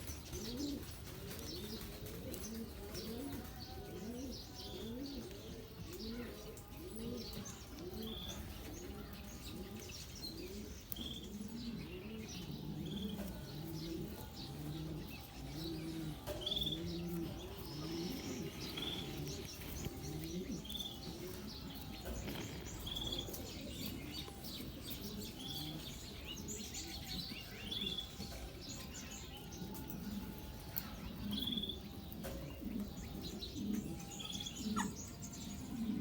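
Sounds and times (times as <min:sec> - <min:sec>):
birds chirping: 0:00.0 - 0:36.0
low cooing: 0:02.2 - 0:26.1, 0:29.7 - 0:36.0.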